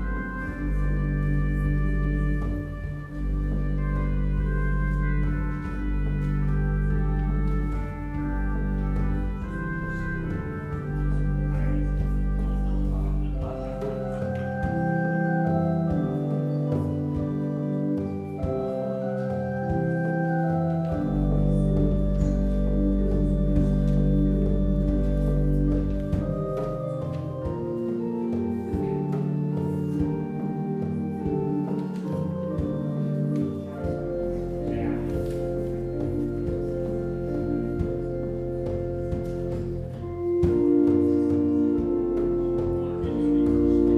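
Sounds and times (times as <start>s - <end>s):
organ playing sustained chords: 0.0s - 43.9s.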